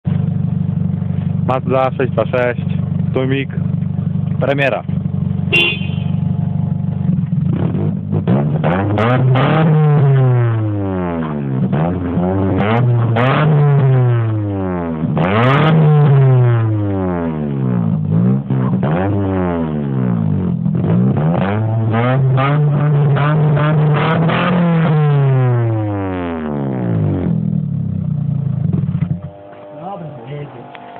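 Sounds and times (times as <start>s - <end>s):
car engine revving: 0.1s - 30.9s.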